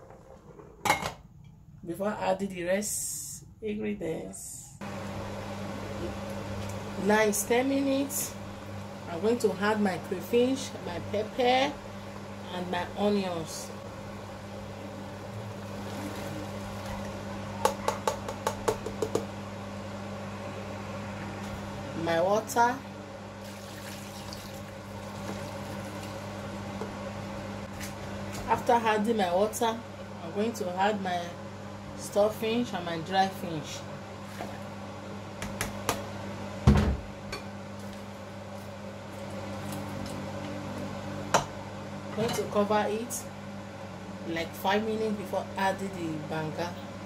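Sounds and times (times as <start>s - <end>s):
steady electrical hum: 0.0s - 47.0s.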